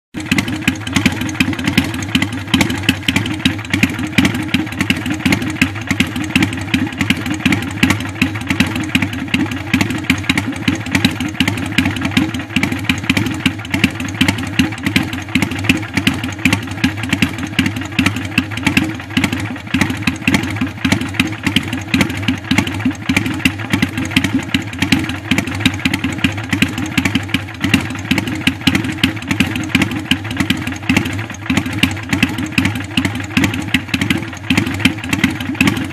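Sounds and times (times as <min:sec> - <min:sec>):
motorcycle engine idling: 0:00.2 - 0:35.9.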